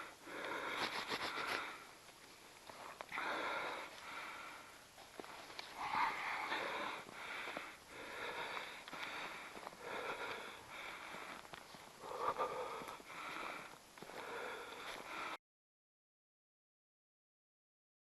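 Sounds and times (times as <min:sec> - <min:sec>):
person breathing heavily: 0:00.0 - 0:15.4.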